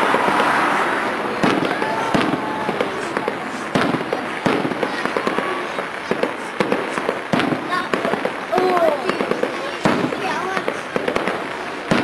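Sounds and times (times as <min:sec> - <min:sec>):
fireworks crackling: 0:00.0 - 0:12.0
fireworks shells bursting: 0:00.0 - 0:12.0.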